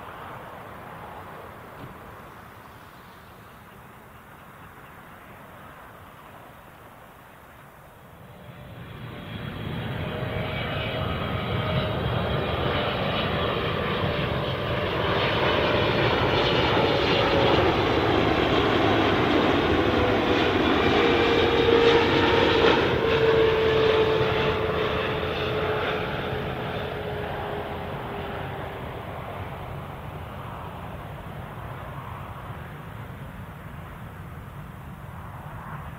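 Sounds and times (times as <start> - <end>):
jet airliner engines passing: 0.0 - 35.9.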